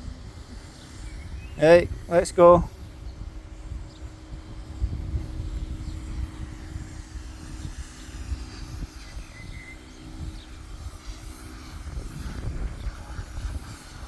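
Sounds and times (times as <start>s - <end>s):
pressure washer motor hum: 0.0s - 14.0s.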